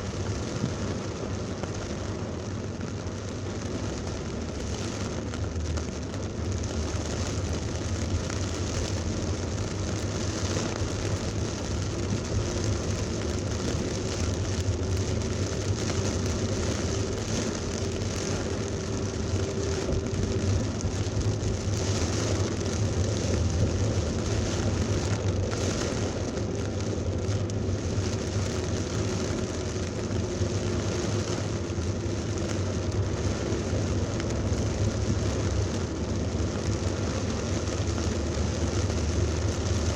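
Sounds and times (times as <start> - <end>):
heavy rain pouring: 0.0 - 39.9
traffic rumble: 0.0 - 39.9.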